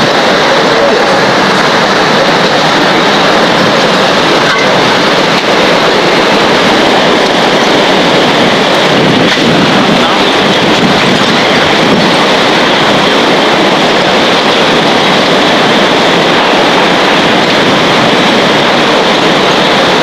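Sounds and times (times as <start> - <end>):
driving rain: 0.0 - 20.0
strong wind: 0.0 - 20.0.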